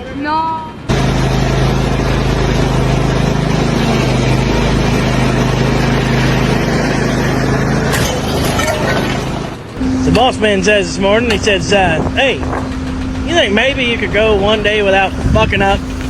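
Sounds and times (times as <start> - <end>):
loud engine running: 0.7 - 16.0.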